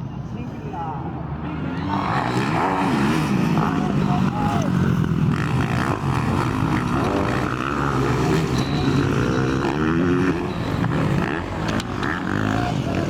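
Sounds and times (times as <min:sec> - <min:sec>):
motocross engines revving: 0:01.5 - 0:13.0.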